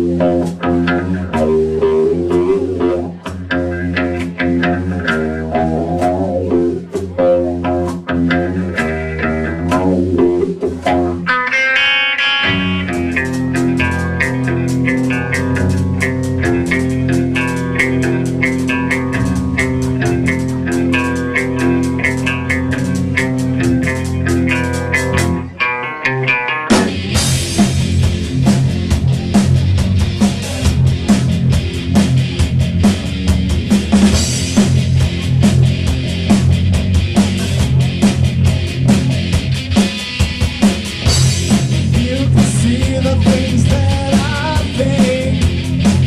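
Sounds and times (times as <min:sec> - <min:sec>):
rock band playing: 0:00.0 - 0:46.0.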